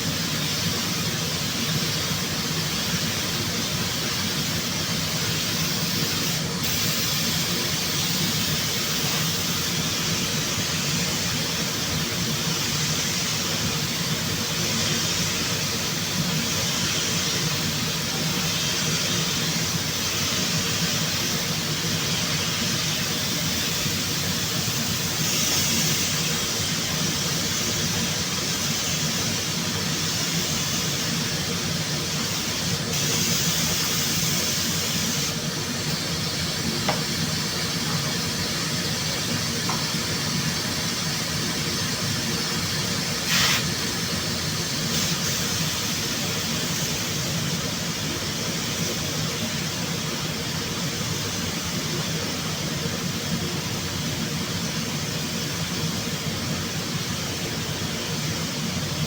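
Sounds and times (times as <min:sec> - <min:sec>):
rushing air hiss: 0:00.0 - 0:59.0.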